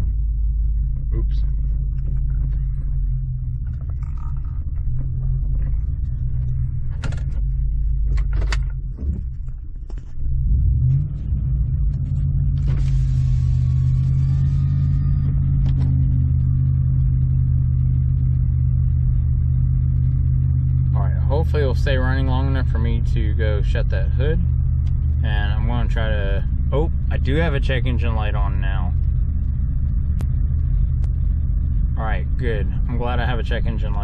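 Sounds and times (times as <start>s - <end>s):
truck engine idling roughly: 0.0s - 34.0s.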